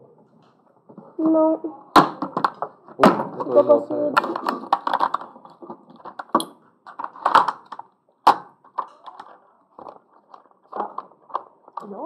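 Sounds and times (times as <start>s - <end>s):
small objects knocking on a table: 2.0s - 12.0s.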